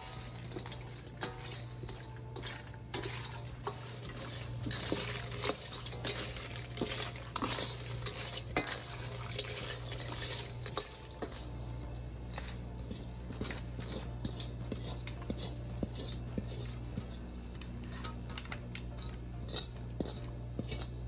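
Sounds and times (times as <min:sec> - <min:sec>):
dishes and utensils clinking: 0:00.0 - 0:21.0
steady low hum: 0:00.0 - 0:21.0.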